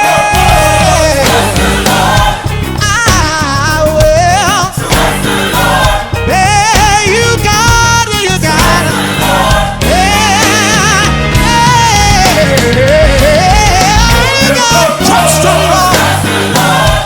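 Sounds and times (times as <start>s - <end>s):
bass and drums: 0.0s - 17.0s
gospel choir singing: 0.0s - 17.0s.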